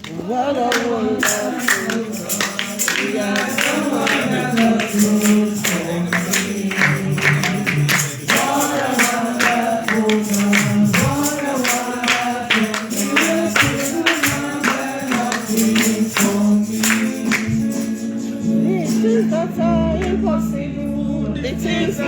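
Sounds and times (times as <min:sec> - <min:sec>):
gospel singing: 0:00.0 - 0:22.0
tambourine beat: 0:01.2 - 0:19.4.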